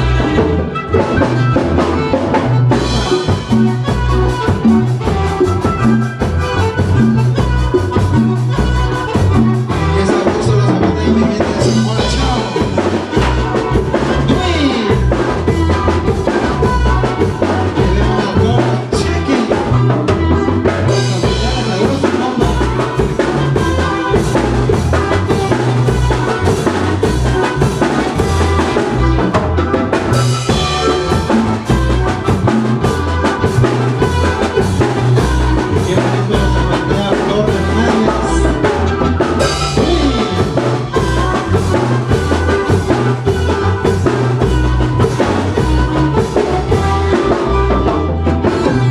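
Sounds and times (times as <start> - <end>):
band playing: 0.0 - 48.9
drum kit beat: 0.0 - 48.9.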